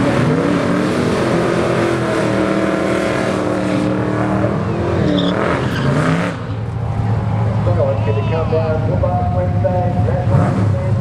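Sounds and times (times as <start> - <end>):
drag car engine at full throttle: 0.0 - 11.0.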